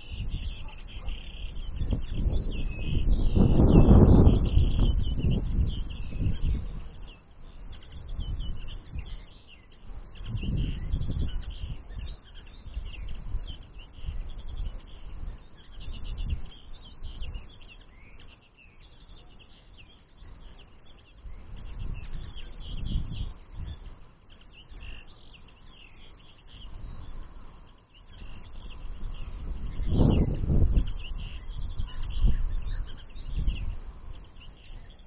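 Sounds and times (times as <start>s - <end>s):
songbirds twittering: 0.0s - 35.0s.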